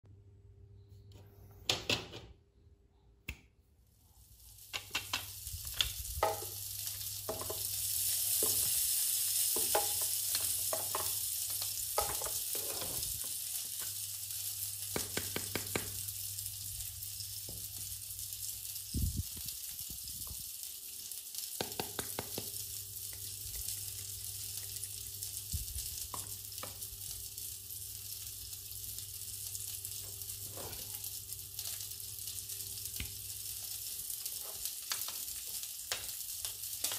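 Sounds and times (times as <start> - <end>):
grill sizzle sound effect: 3.3 - 36.9.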